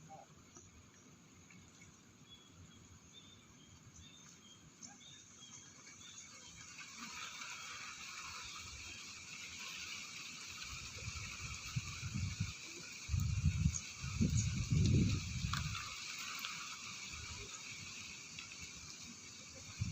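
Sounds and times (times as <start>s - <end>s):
soft hiss: 0.0s - 19.9s.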